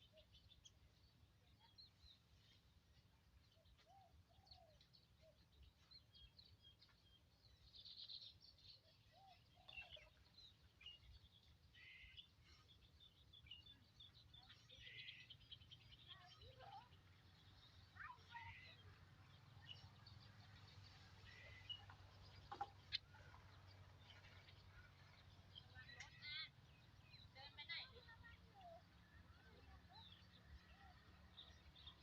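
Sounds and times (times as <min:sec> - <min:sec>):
birds chirping and trilling: 0:03.4 - 0:32.0.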